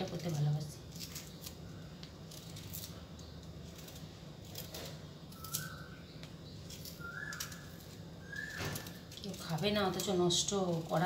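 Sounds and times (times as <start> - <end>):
knife scraping mango skin: 0.0 - 6.0, 6.6 - 11.0.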